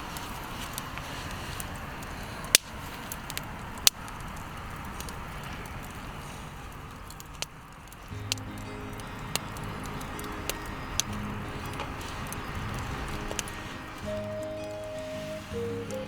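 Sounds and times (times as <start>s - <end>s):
steady hiss: 0.0s - 16.0s
wood campfire crackling: 0.0s - 16.0s.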